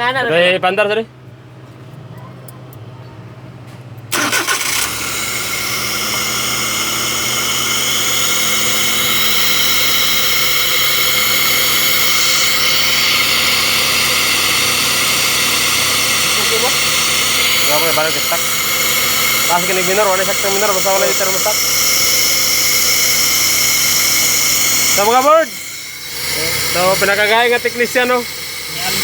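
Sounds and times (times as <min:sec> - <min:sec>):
car engine starting and idling: 0:00.0 - 0:29.0.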